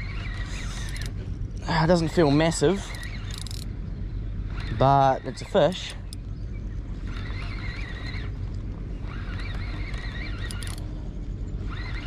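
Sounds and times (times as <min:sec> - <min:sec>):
fishing reel whirring: 0:00.0 - 0:12.0
steady low rumble: 0:00.0 - 0:12.0.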